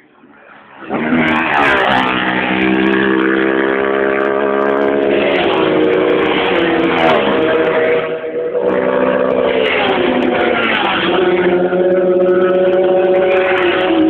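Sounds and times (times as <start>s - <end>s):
racing motorcycles at high revs: 0.0s - 14.0s.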